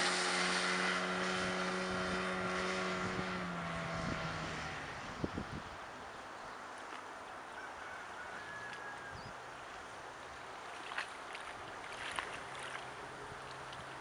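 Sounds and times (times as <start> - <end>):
distant outboard motor droning: 0.0 - 14.0.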